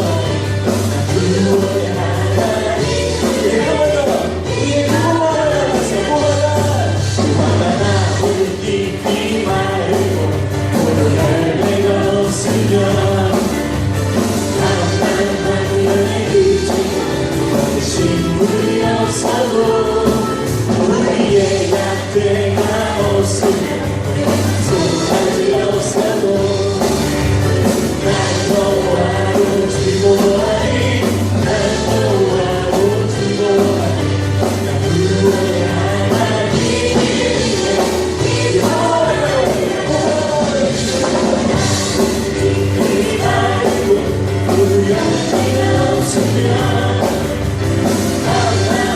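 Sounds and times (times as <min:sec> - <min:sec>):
group singing worship song: 0:00.0 - 0:48.9
instrumental accompaniment with beat: 0:00.0 - 0:48.9.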